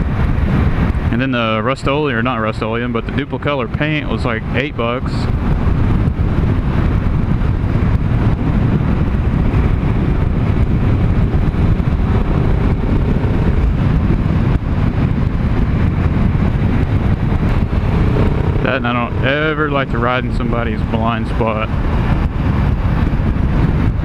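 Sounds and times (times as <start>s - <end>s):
motorcycle running: 0.0s - 24.0s
wind buffeting microphone: 0.0s - 24.0s.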